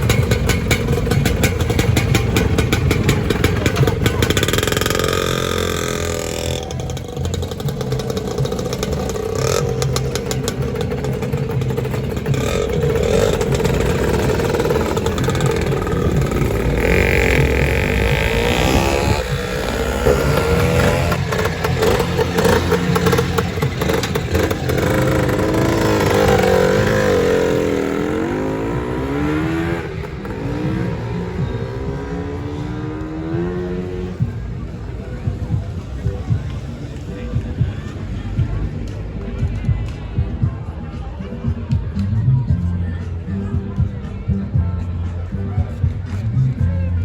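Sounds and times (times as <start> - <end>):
scooters revving and passing: 0.0 - 41.2.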